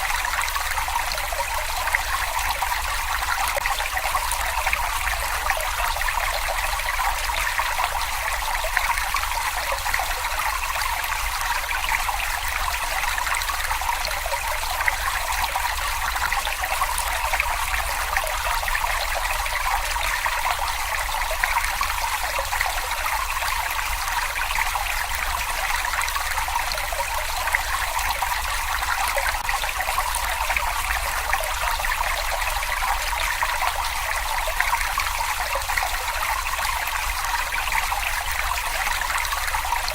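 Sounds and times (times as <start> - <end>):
brook water trickling: 0.0 - 39.9.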